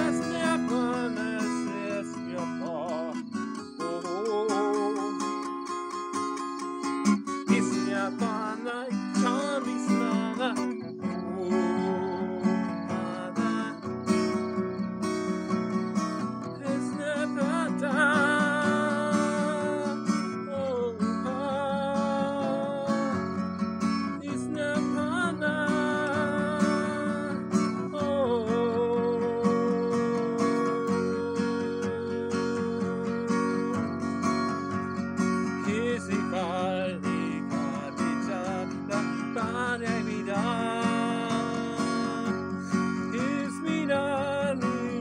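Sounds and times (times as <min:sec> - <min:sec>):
man singing: 0:00.0 - 0:06.4, 0:07.3 - 0:14.5, 0:16.0 - 0:23.4, 0:24.1 - 0:34.1, 0:35.6 - 0:45.0
acoustic guitar strumming: 0:00.0 - 0:45.0.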